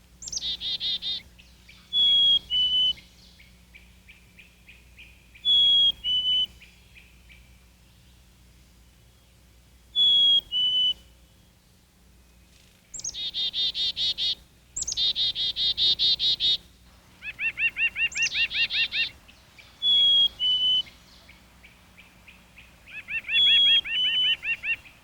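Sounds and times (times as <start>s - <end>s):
songbirds trilling: 0.0s - 25.0s.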